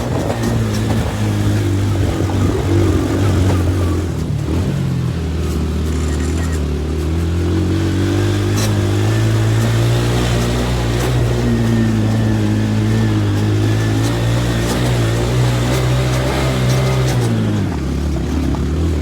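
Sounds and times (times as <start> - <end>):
motorcycle engine running under load: 0.0 - 19.0.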